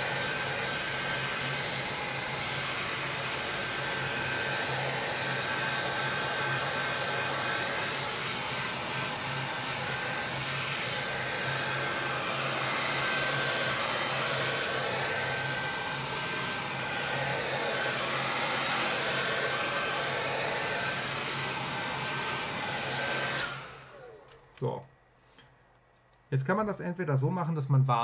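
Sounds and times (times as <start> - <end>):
hair dryer blowing: 0.0 - 25.7.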